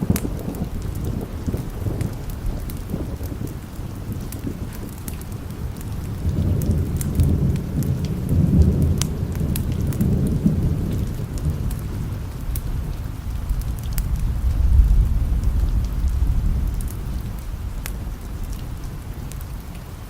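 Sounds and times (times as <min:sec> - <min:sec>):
low rolling thunder: 0:00.0 - 0:20.0
steady rain: 0:00.0 - 0:20.0.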